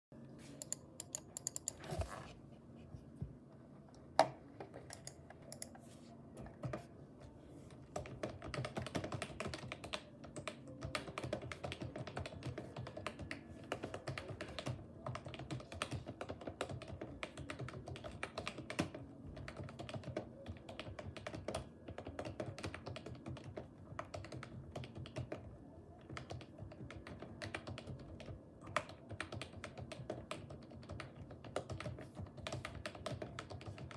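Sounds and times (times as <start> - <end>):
keyboard typing: 0.5 - 2.1, 4.2 - 5.8, 7.9 - 33.9.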